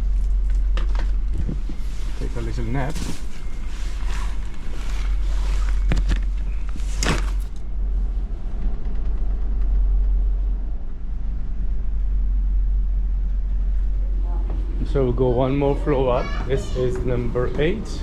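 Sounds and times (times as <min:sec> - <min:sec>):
ship engines rumbling: 0:00.0 - 0:18.0.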